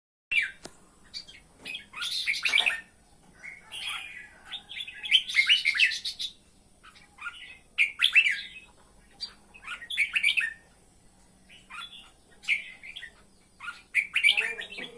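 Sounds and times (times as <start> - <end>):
bird chirping: 0.3 - 14.9.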